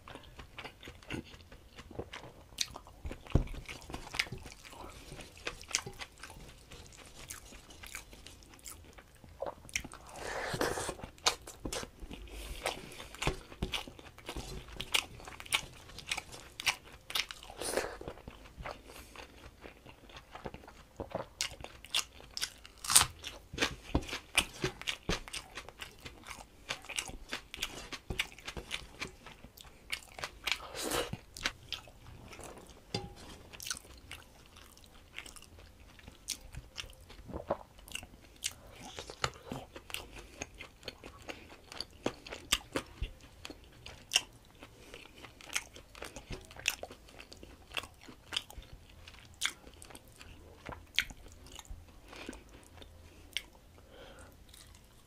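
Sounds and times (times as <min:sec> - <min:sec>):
person chewing with lip smacking: 0:00.0 - 0:53.7, 0:54.4 - 0:55.0.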